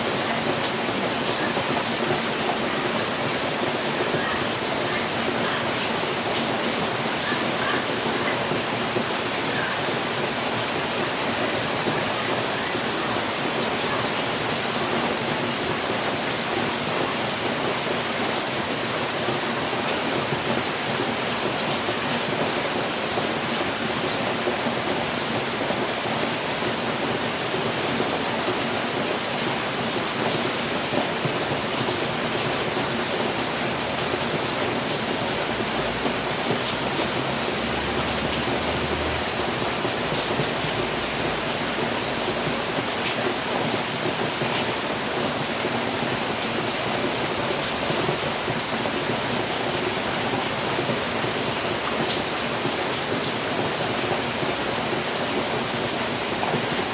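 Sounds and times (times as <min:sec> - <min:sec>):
heavy rain on a roof: 0:00.0 - 0:56.9.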